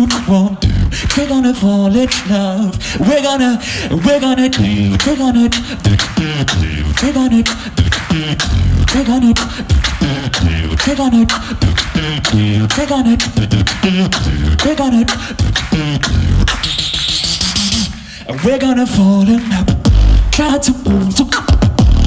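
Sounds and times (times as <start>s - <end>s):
beatboxing snare and hi-hat clicks: 0.0s - 3.1s, 3.8s - 18.4s, 19.2s - 22.0s
beatboxing bass kicks: 0.0s - 22.0s.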